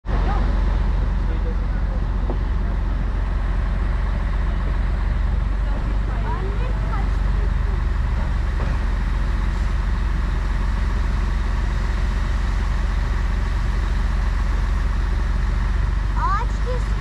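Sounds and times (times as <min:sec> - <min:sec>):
low rumble of outdoor background: 0:00.0 - 0:17.0.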